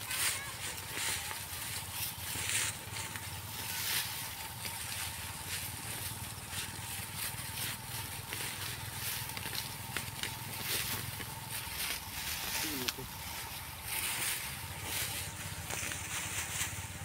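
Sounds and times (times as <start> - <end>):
plants rustling and crackling: 0.0 - 17.0.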